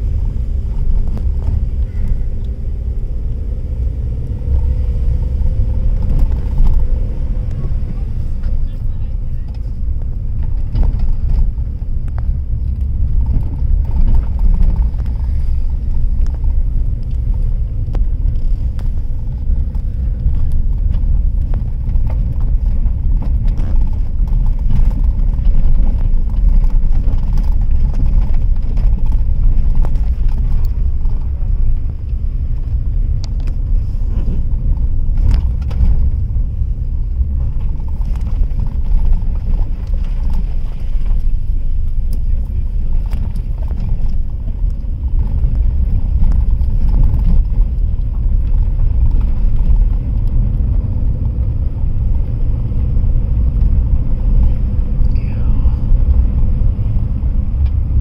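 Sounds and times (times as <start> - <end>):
car driving on gravel: 0.0 - 58.0.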